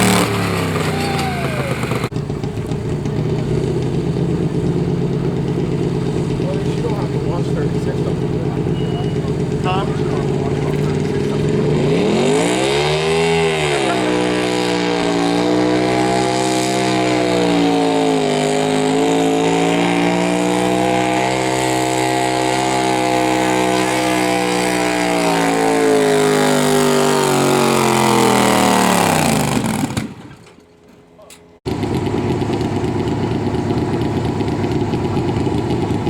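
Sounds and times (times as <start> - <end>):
tractor engine at full throttle: 0.0 - 36.0.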